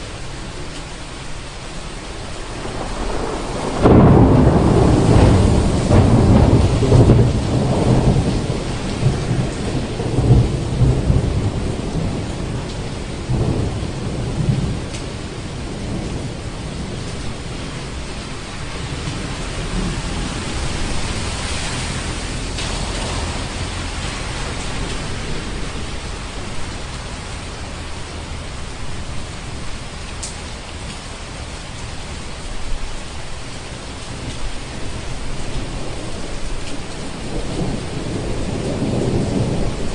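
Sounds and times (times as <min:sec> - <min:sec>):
steady rain: 0:00.0 - 0:39.9
thunder rumbling: 0:00.0 - 0:39.9.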